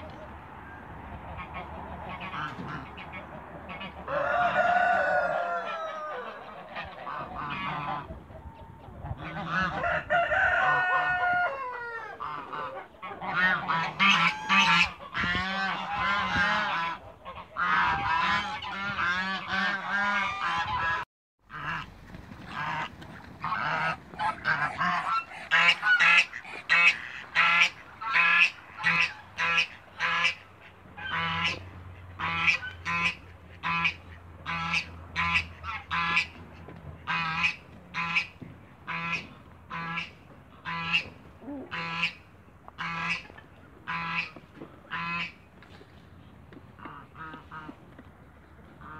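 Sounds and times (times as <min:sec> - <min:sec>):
geese honking: 0:01.3 - 0:08.2, 0:09.1 - 0:36.4, 0:37.0 - 0:45.4.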